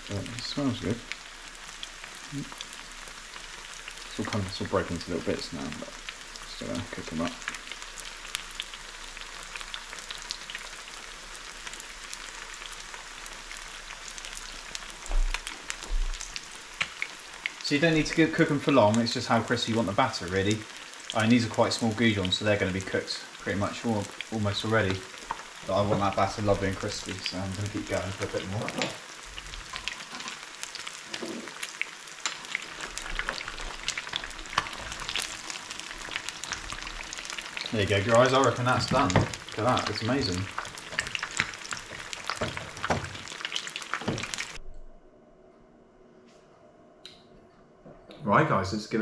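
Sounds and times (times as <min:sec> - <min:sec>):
fish frying with crackling pops: 0:00.0 - 0:44.6.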